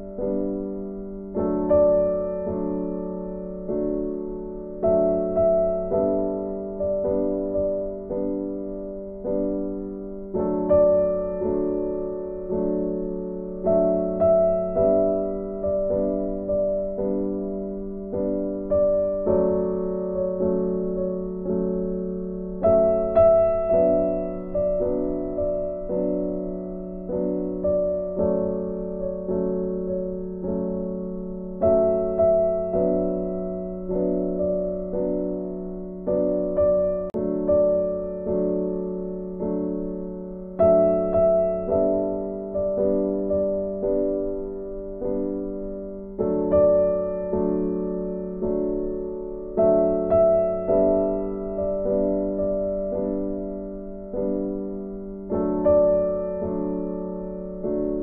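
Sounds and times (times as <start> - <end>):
slow piano chords: 0.0 - 58.0.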